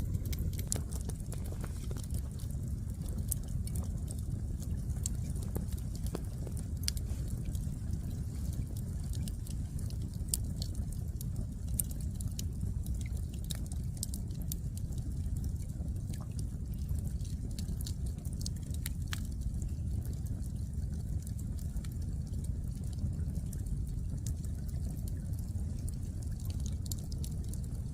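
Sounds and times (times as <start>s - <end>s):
fire crackling and popping: 0.0s - 27.9s
low rumble of fire: 0.0s - 27.9s.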